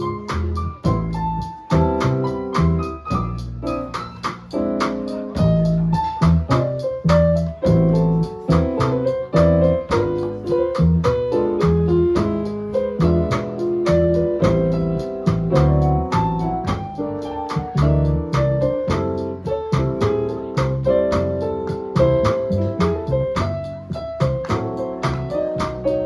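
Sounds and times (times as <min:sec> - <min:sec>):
double bass line: 0:00.0 - 0:26.0
drums on cymbals: 0:00.0 - 0:26.0
electric piano: 0:00.0 - 0:26.0.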